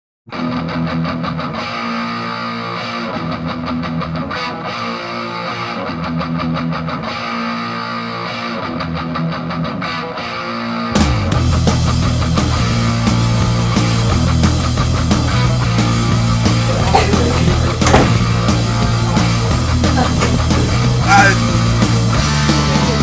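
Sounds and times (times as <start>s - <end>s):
guitar music with repeating chords: 0.3s - 23.0s.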